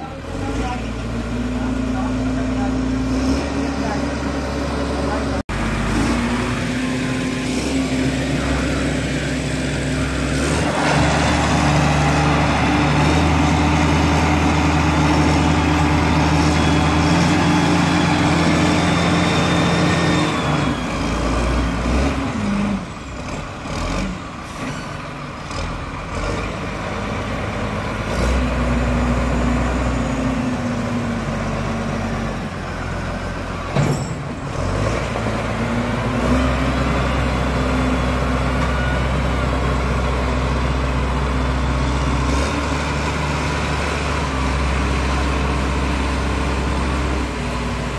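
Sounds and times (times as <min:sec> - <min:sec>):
diesel loader engine running: 0:00.0 - 0:47.9.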